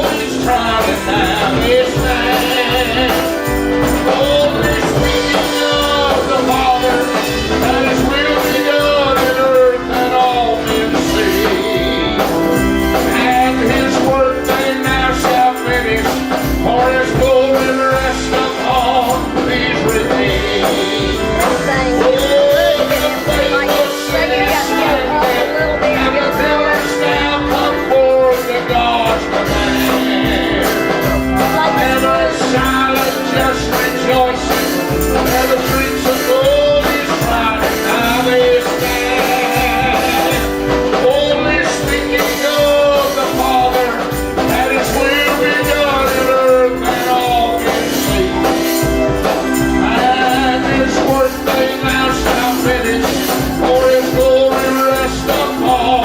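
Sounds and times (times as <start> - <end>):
gospel singing with band: 0.0 - 56.0.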